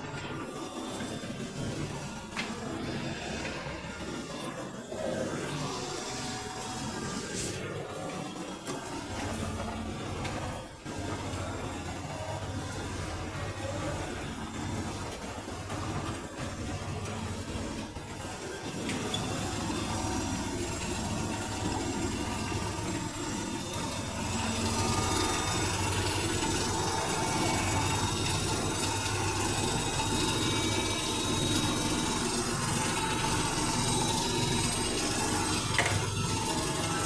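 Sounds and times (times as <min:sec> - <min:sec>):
washing machine humming: 0:00.0 - 0:37.0.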